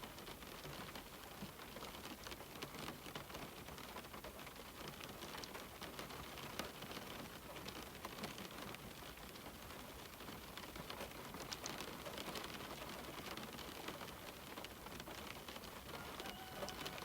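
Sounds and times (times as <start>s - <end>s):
rain on a window: 0.0s - 17.0s.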